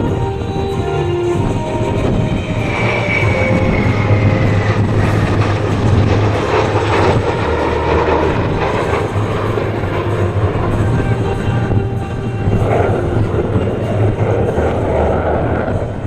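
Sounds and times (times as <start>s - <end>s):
military jet flying past: 0.0s - 16.0s.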